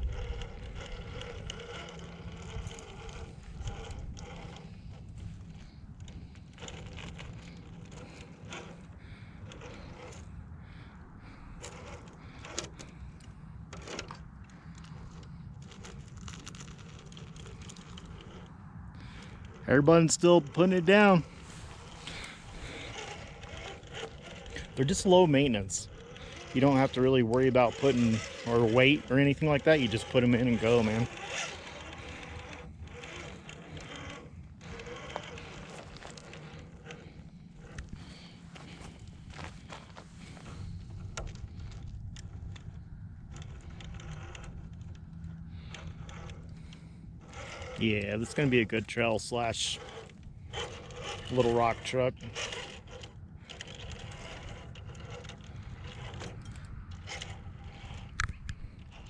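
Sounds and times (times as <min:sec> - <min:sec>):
toy car motor humming: 0:00.0 - 0:59.0
tyres scraping on rock: 0:00.0 - 0:59.0.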